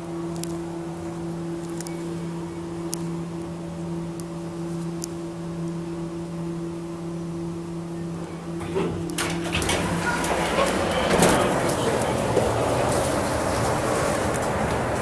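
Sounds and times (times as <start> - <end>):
elevator two-toned hum: 0.0 - 15.0.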